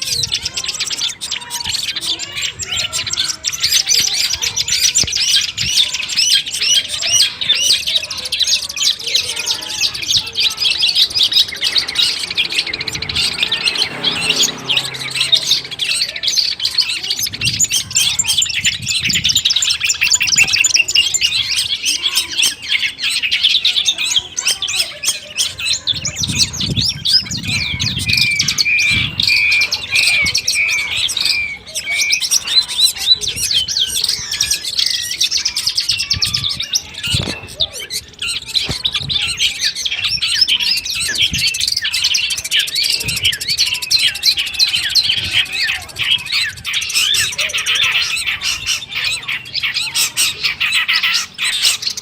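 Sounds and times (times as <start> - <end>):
bird chattering chirps and trills: 0.0 - 52.0.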